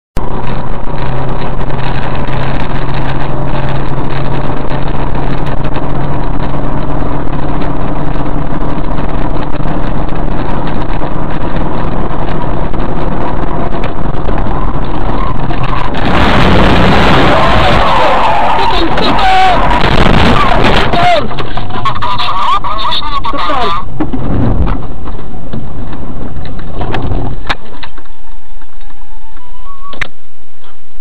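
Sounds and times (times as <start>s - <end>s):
tyre and wind noise: 0.2s - 22.2s, 23.9s - 31.0s
tyres rushing on dirt shoulder: 0.2s - 27.8s
car engine hum: 0.2s - 31.0s.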